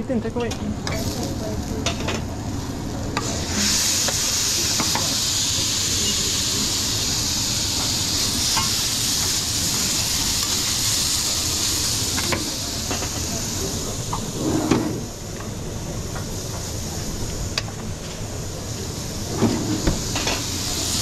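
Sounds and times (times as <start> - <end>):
food sizzling on hot pan: 0.7 - 21.0.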